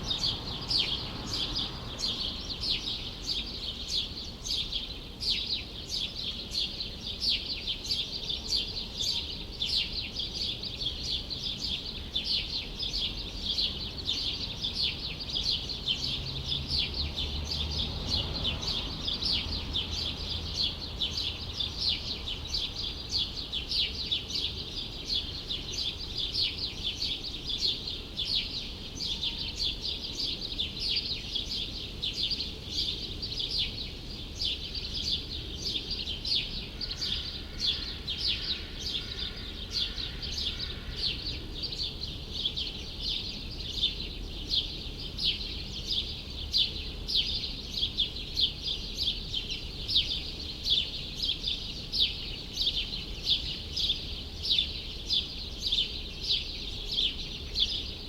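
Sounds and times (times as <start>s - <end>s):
low city hum: 0.0s - 58.0s
small birds chirping: 0.0s - 58.0s.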